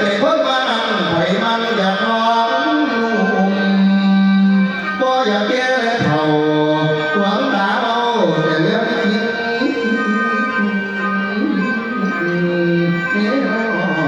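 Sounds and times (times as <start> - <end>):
musical accompaniment: 0.0 - 14.0
person singing sliding notes: 0.0 - 14.0.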